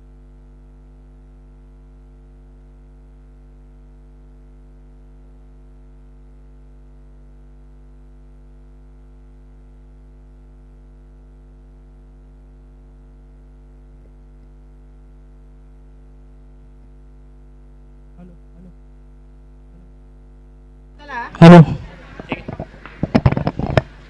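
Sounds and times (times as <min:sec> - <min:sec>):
buzzy electrical mains hum: 0:00.0 - 0:24.0.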